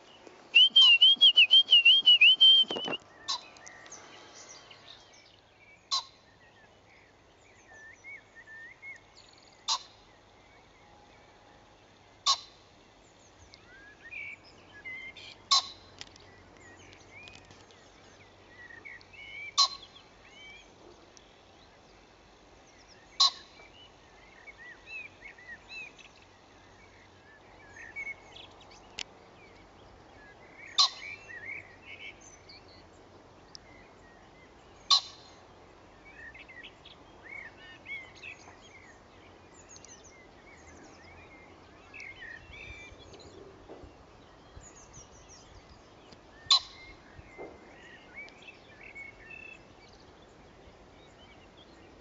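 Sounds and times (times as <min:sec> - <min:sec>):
small birds chirping: 0:00.0 - 0:10.8, 0:11.8 - 0:52.0.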